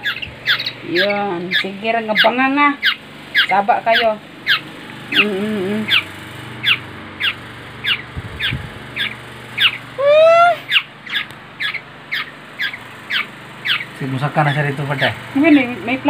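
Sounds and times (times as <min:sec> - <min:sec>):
bird fledgling calling: 0:00.0 - 0:16.0.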